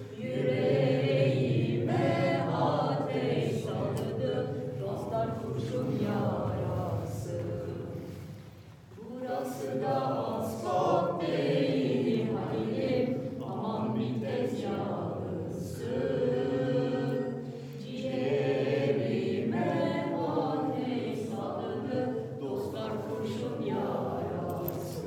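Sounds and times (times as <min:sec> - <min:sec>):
group singing in chorus: 0:00.0 - 0:25.0.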